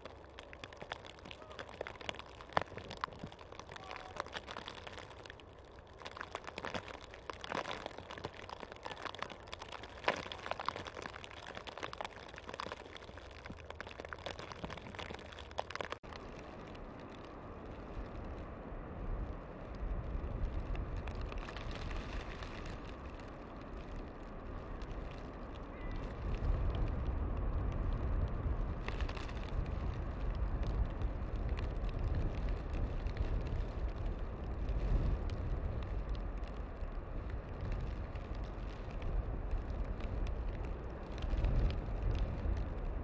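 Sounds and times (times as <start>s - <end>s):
snow ticking on branches: 0.0s - 43.0s.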